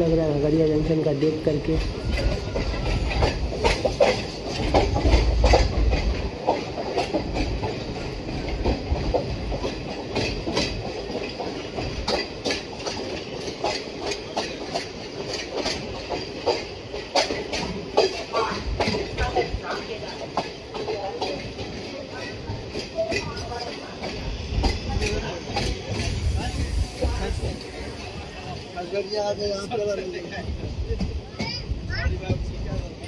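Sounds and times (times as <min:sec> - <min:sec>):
train wheels clattering on track: 0:00.0 - 0:33.0.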